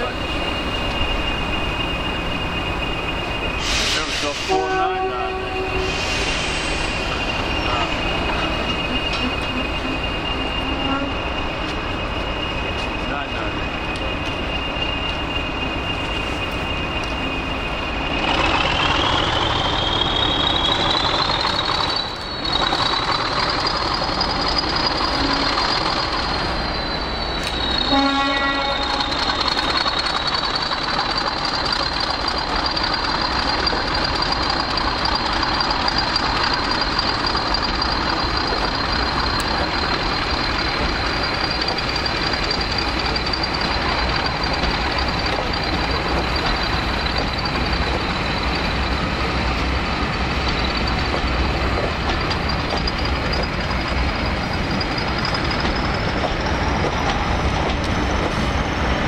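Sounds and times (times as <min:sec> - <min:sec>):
train two-tone whine: 0:00.0 - 0:59.0.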